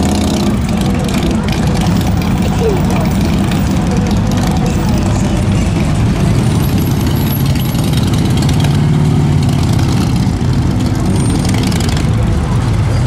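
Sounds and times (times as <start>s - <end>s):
car engines idling and moving off: 0.0s - 13.0s
motorcycles accelerating away: 0.0s - 13.0s.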